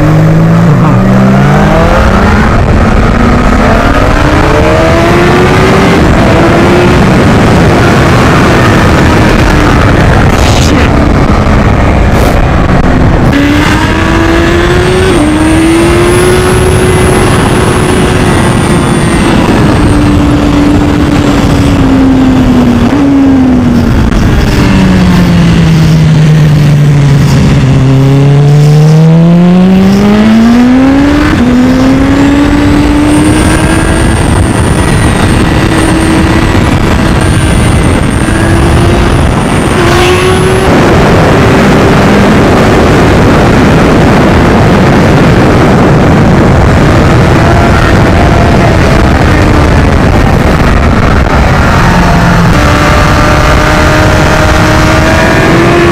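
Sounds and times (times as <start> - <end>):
sport bike engine revving: 0.0 - 55.9
wind rush on microphone: 0.0 - 55.9.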